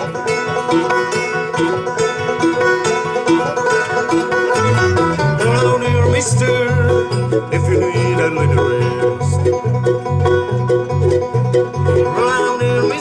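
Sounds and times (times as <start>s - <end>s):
plucked strings picking: 0.0s - 13.0s
bass line: 1.8s - 13.0s.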